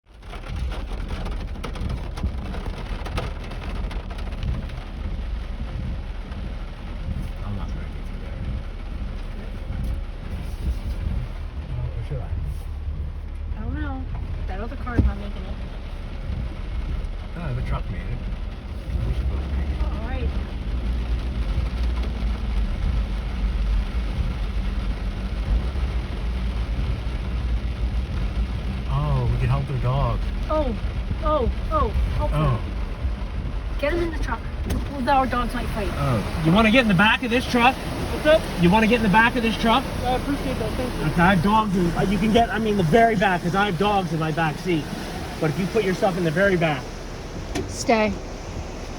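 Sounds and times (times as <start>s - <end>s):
heavy rain on a vehicle: 0.0s - 48.9s
low rumble: 0.0s - 48.9s
rush of water: 0.1s - 48.9s.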